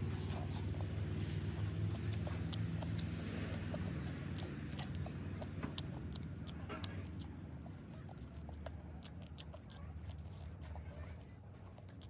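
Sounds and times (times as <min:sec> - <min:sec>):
biting and chewing food: 0:00.0 - 0:12.0
low background rumble: 0:00.0 - 0:12.0
wet mouth clicks: 0:00.0 - 0:12.0.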